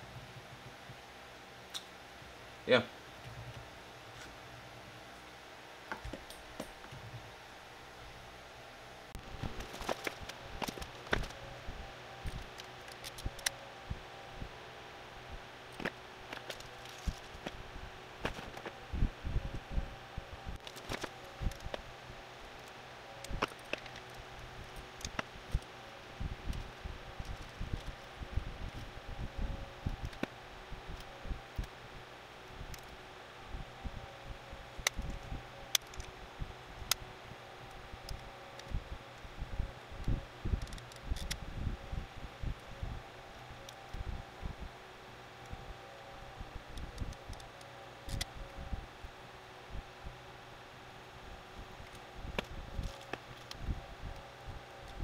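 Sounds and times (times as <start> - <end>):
faint steady hum: 0.0 - 55.0
wires rustling: 9.1 - 49.4, 50.5 - 55.0.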